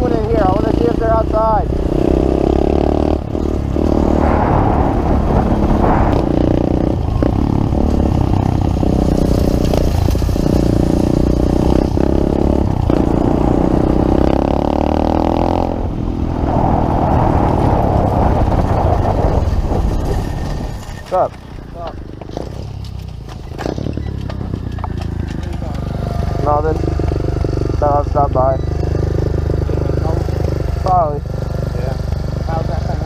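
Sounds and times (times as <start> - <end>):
motorbike engine running: 0.0 - 15.8, 21.1 - 33.0.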